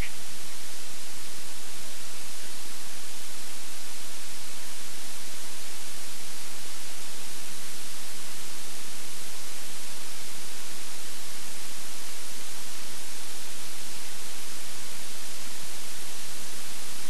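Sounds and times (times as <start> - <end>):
faint hum: 0.0 - 17.0
steady hiss: 0.0 - 17.0.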